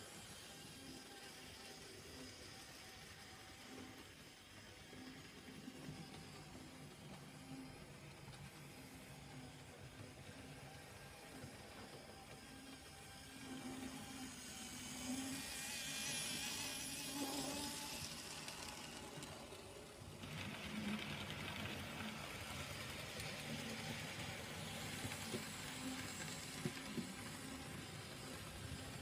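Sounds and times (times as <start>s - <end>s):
model train motor whirring: 0.0s - 29.0s.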